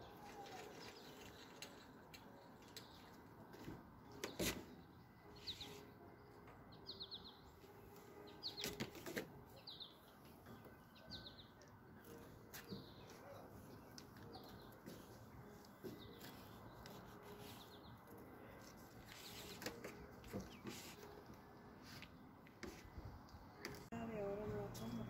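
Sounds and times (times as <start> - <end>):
faint bird chirping: 0.0 - 8.8, 9.5 - 25.0.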